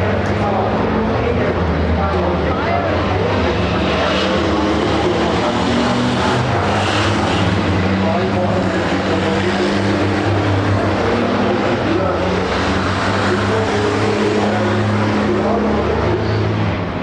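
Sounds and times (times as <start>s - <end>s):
truck diesel engines droning: 0.0s - 17.0s.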